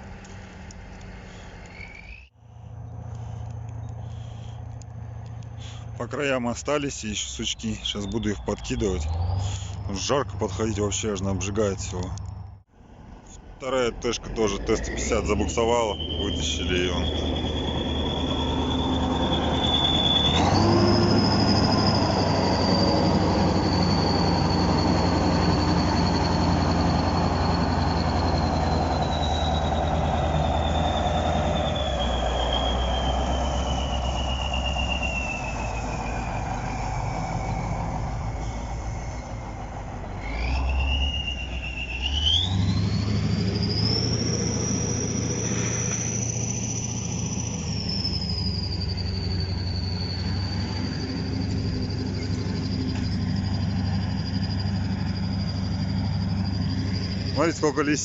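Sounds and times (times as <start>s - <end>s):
high whine: 0.0s - 58.0s
tractor diesel engine: 0.0s - 58.0s.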